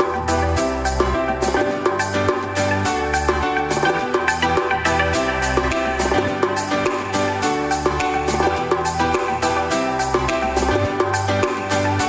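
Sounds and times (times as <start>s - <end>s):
music with drum beat and bass: 0.0s - 12.0s.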